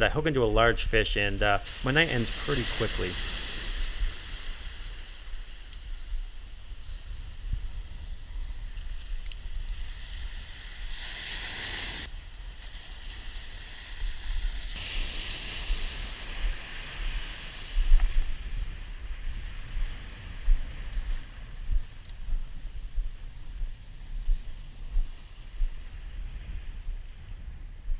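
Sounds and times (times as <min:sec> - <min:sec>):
wind on microphone: 0:00.0 - 0:27.9
waves breaking on beach: 0:01.4 - 0:27.5.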